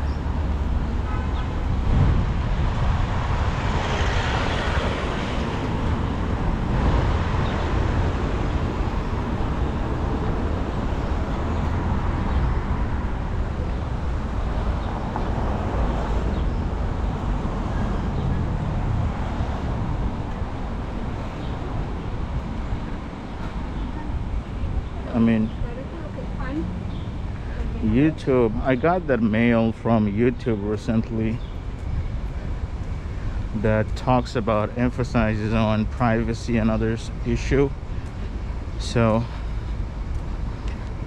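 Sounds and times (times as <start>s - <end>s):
low traffic rumble: 0.0s - 41.0s
vehicles passing: 0.0s - 41.0s.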